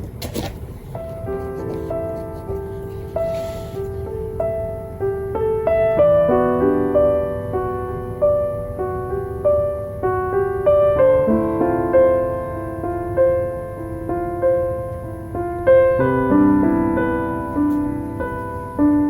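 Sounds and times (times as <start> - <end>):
gentle piano melody: 0.0 - 19.0
low steady background noise: 0.0 - 19.0.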